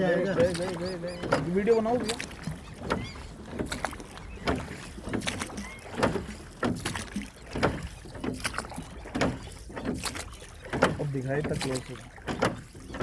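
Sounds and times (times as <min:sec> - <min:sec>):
oars splashing in water: 0:00.0 - 0:13.0.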